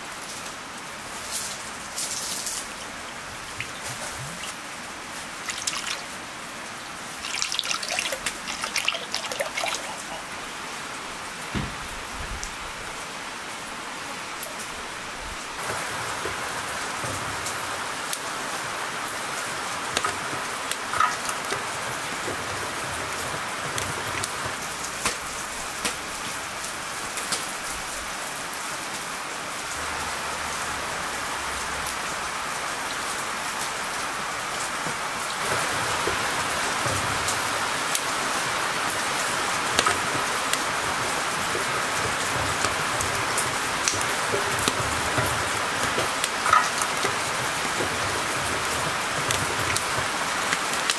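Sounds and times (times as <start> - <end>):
raindrops ticking on surfaces: 0.0 - 50.9
steady rain hiss: 0.0 - 50.9.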